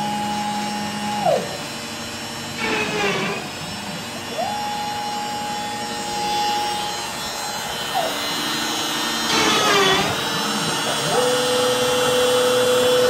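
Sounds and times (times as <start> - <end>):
router spindle running: 0.0 - 13.0
stepper motors whining: 0.0 - 13.0.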